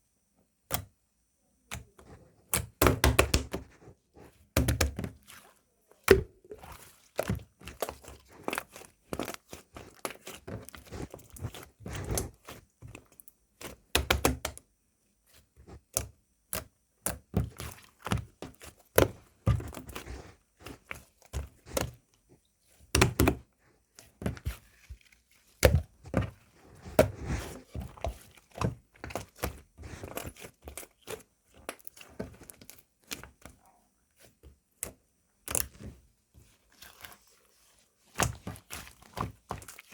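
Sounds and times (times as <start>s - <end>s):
slime squishing with sticky clicks: 0.6s - 1.0s, 1.6s - 39.9s.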